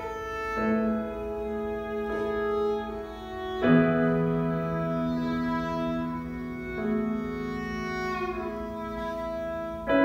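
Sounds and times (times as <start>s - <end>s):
violin long bowed notes: 0.0s - 10.0s.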